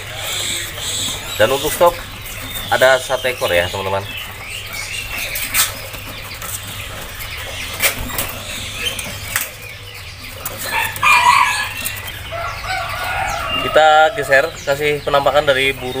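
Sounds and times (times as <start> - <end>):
bird calls: 0.0 - 16.0
knocks against cages: 0.7 - 14.7.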